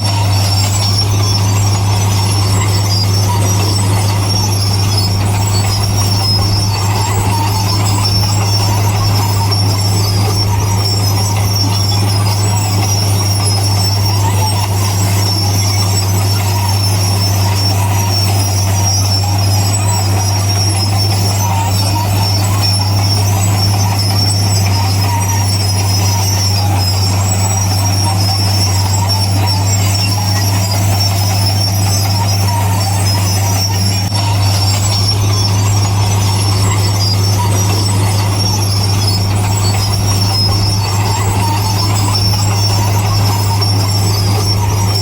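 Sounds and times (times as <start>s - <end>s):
bulldozer diesel engine running: 0.0s - 45.0s
high squeal: 0.0s - 45.0s.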